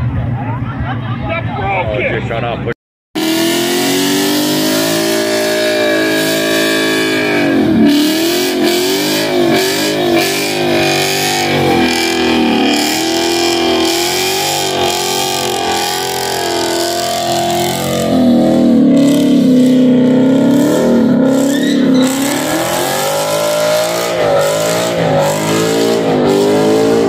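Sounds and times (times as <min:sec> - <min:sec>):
car engine revving hard: 0:03.2 - 0:27.0
spinning tyres hissing: 0:03.2 - 0:27.0.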